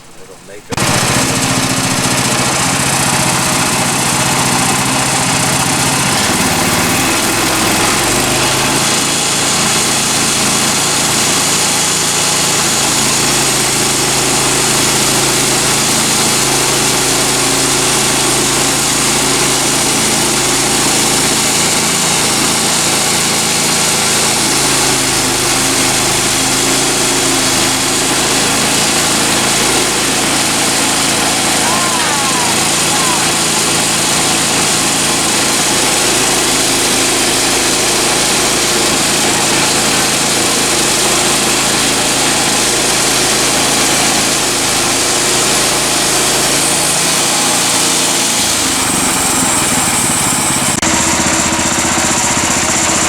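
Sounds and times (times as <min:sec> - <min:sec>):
small gasoline engine running: 0:00.2 - 0:53.0.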